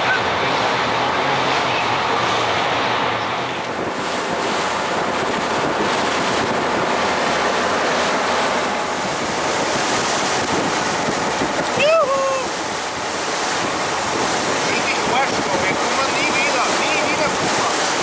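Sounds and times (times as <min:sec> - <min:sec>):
water washing along boat hull: 0:00.0 - 0:18.0
wind buffeting microphone: 0:00.0 - 0:18.0.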